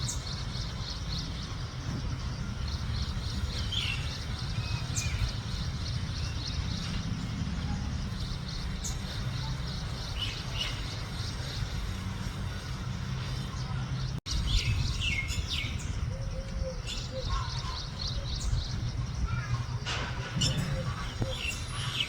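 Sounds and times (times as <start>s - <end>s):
bird chirps: 0.0s - 22.0s.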